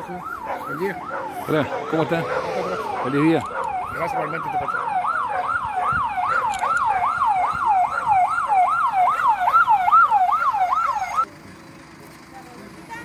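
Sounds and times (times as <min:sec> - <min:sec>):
ambulance siren yelping: 0:00.0 - 0:11.3.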